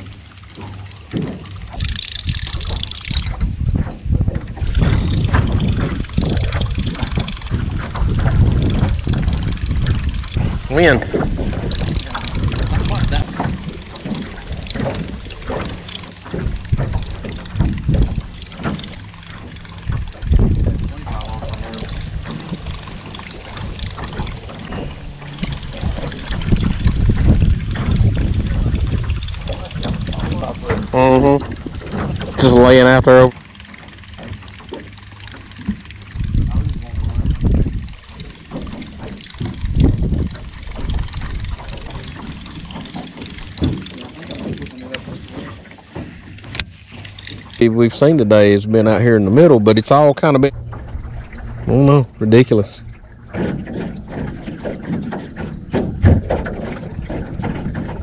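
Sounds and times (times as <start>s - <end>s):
waves lapping against boat hull: 0.0s - 58.0s
wind buffeting microphone: 0.0s - 58.0s.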